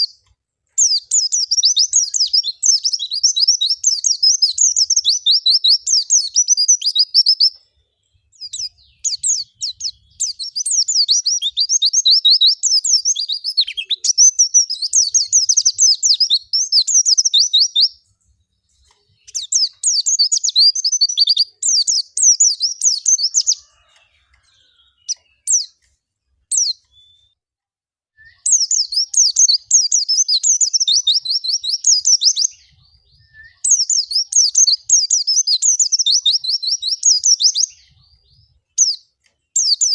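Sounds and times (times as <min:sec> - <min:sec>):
bird twittering song: 0:00.0 - 0:27.4, 0:28.2 - 0:39.9.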